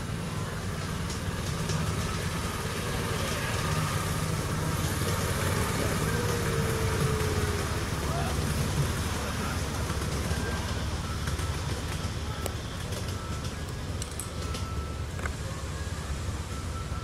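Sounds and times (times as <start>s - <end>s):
miniature train rumbling on track: 0.0s - 17.0s.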